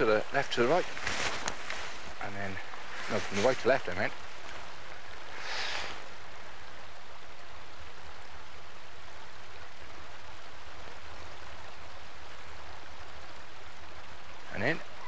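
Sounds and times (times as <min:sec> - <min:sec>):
low rumble of river: 0:00.0 - 0:15.0
river water rushing: 0:00.0 - 0:15.0.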